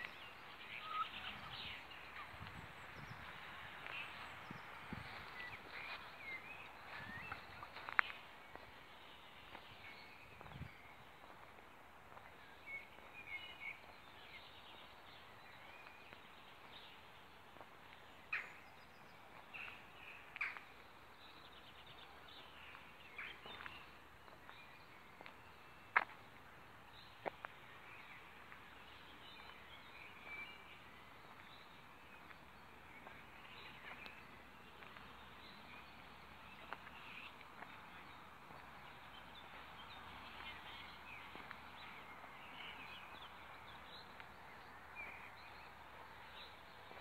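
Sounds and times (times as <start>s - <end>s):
songbirds chirping: 0.0s - 47.0s.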